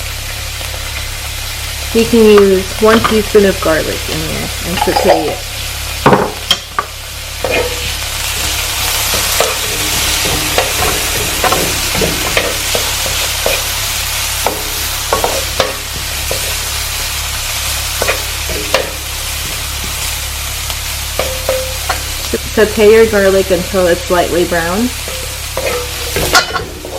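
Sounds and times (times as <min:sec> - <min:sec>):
garlic and onions sizzling in oil: 0:00.0 - 0:26.9.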